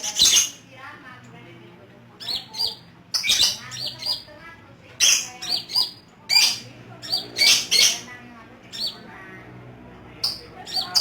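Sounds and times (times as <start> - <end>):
birds chirping: 0.0 - 0.8, 2.1 - 11.0.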